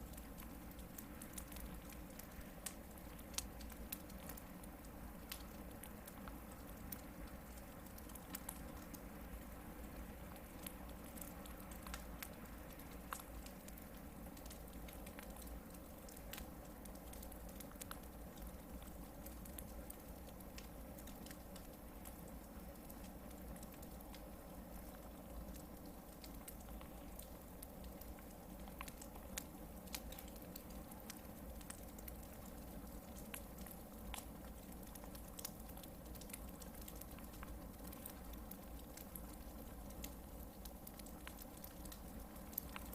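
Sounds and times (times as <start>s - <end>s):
campfire crackles and pops: 0.0s - 42.9s.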